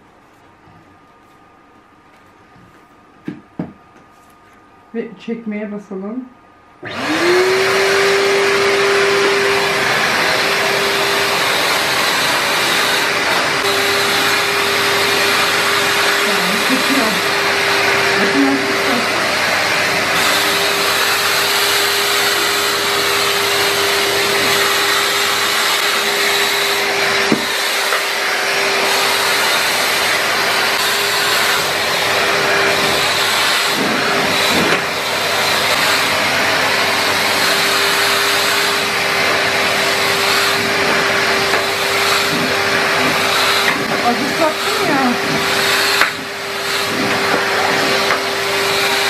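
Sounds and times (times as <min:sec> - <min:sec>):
vacuum motor whining: 0:06.8 - 0:49.0.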